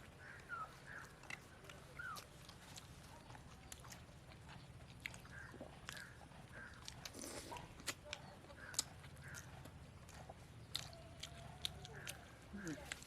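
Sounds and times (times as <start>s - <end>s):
people chewing and biting food: 0.0s - 13.0s.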